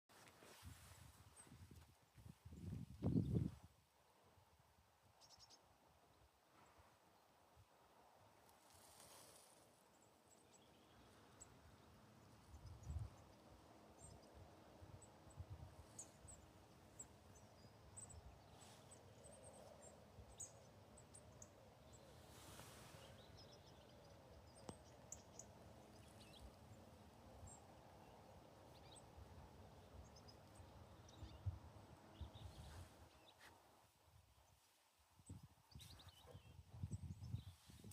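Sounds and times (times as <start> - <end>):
small birds chirping: 1.4 - 3.6, 8.6 - 33.7, 34.3 - 37.9.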